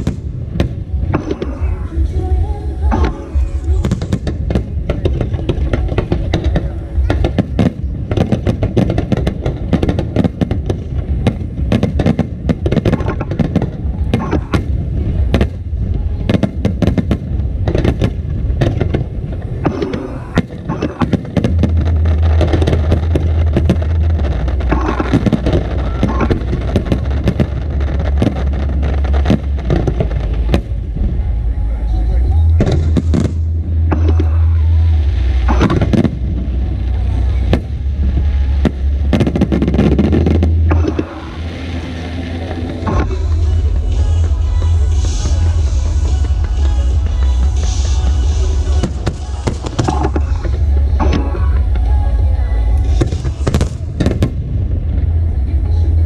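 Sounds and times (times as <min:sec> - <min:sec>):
fireworks bursting and crackling: 0:00.0 - 0:56.0
low rumble: 0:00.0 - 0:56.0
music: 0:00.0 - 0:56.0
voices: 0:00.8 - 0:12.0, 0:12.8 - 0:56.0.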